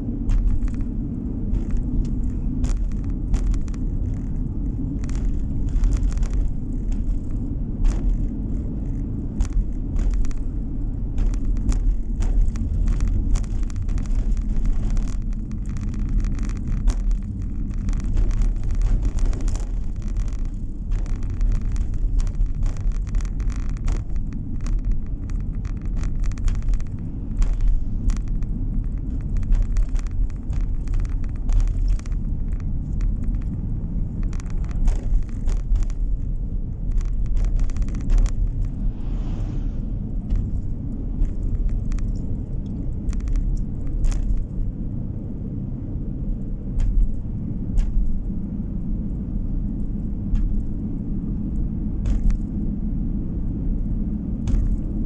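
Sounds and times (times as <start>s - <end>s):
car tyres and engine rumbling: 0.0s - 55.0s
small knocks and rattles: 0.0s - 55.0s.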